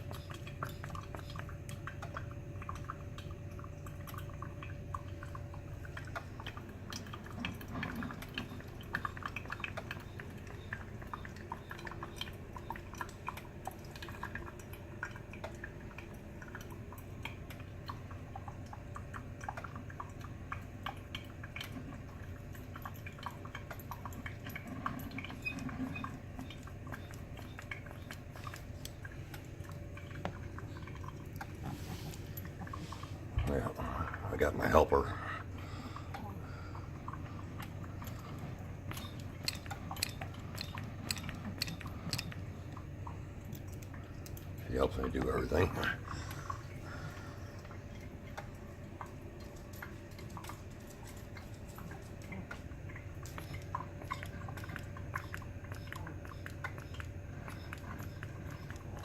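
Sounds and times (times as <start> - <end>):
coffee maker crackling and dripping: 0.0 - 59.0
coffee maker low hum: 0.0 - 59.0.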